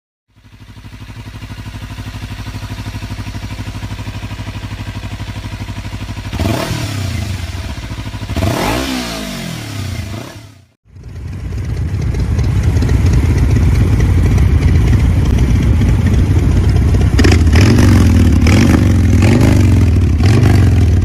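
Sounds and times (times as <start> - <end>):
twin-cylinder engine idling and revving: 0.3 - 21.0.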